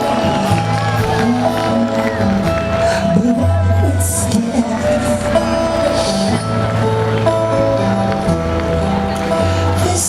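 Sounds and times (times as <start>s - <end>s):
bass line: 0.0s - 10.0s
live rock band playing: 0.0s - 10.0s.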